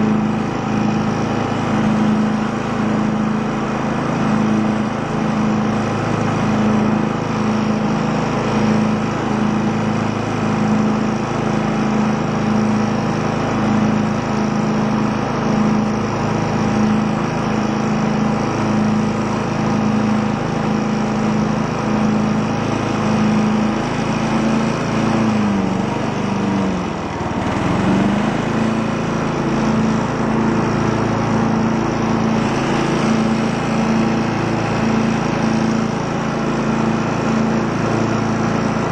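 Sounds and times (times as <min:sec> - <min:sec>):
lawn tractor engine running: 0:00.0 - 0:38.9.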